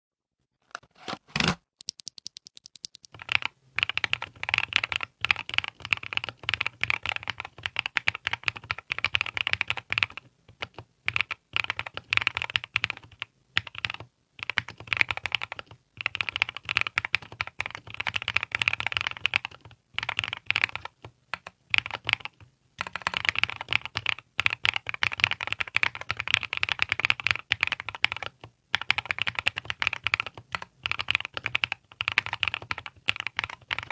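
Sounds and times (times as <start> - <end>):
mechanical keyboard typing: 1.0 - 33.9.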